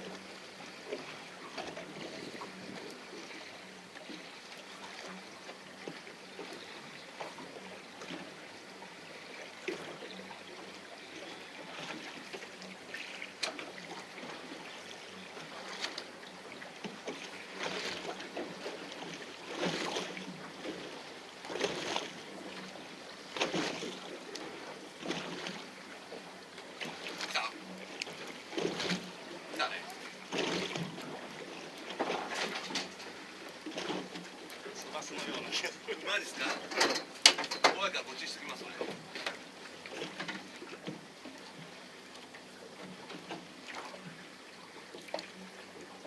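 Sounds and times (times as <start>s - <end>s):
boat engine hum: 0.0s - 46.0s
water: 0.0s - 46.0s
water surging against hull: 0.0s - 46.0s
wind: 0.0s - 46.0s.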